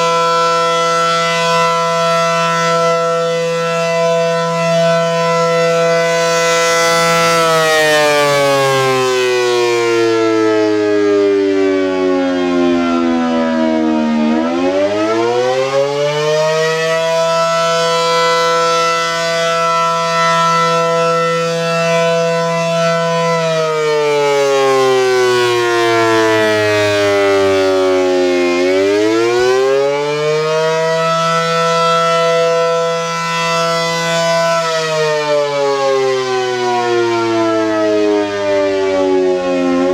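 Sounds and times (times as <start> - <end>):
electronic siren wailing: 0.0 - 39.9.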